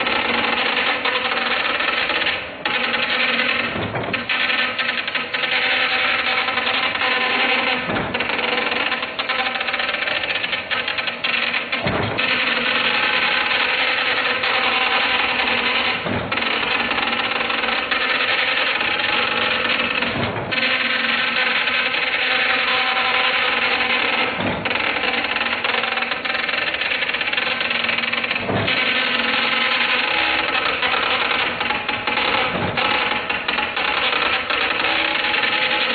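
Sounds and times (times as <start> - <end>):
dot matrix printer printing: 0.0 - 35.9.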